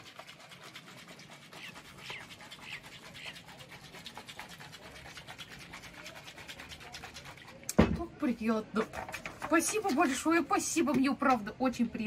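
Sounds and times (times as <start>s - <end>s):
shaker bottle rattling: 0.0s - 8.0s, 8.7s - 11.4s.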